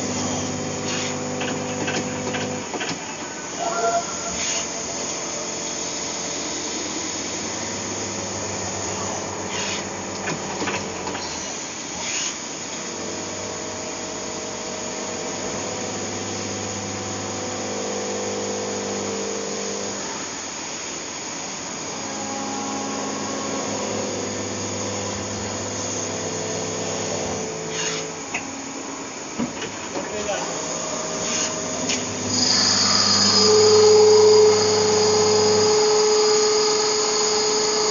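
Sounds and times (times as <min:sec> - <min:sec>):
lathe machining noise: 0:00.0 - 0:37.9
motor hum: 0:00.0 - 0:37.9.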